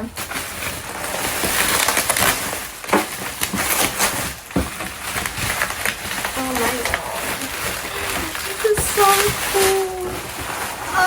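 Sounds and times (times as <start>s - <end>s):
packaging crackling rustle: 0.0s - 11.0s.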